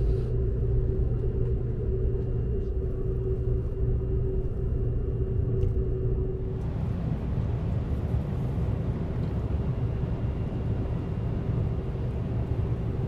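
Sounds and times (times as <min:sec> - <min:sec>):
train cabin rumble and hum: 0:00.0 - 0:13.0.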